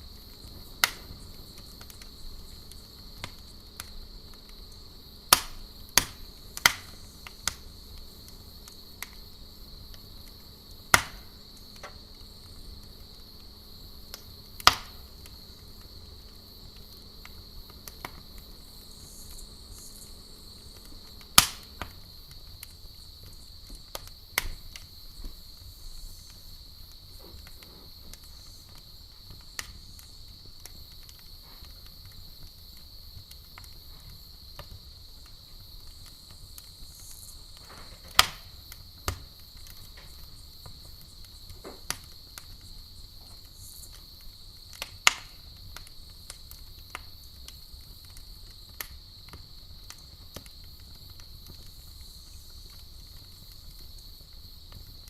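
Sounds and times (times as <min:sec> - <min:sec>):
campfire wood crackling: 0:00.0 - 0:55.0
cricket trill: 0:00.0 - 0:55.0.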